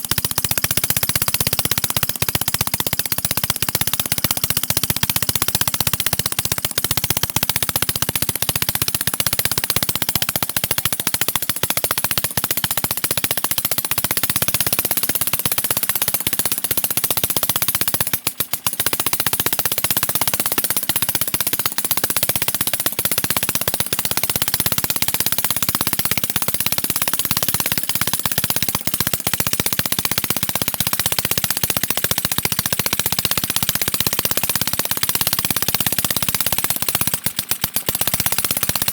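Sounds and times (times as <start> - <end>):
small two-stroke engine popping: 0.0 - 38.9.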